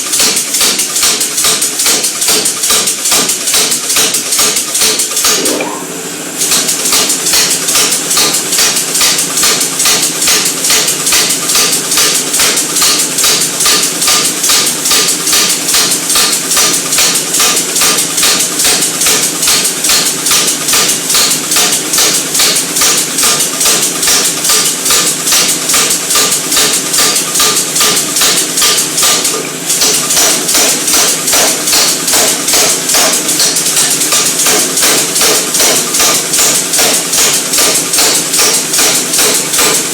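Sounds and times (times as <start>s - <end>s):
forging hammer pounding: 0.0s - 5.8s, 6.4s - 39.9s.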